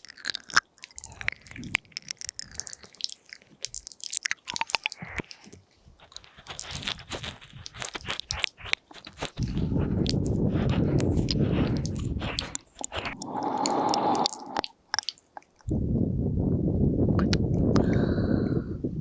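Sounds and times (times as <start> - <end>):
wet mouth clicks and smacks: 0.0 - 15.8.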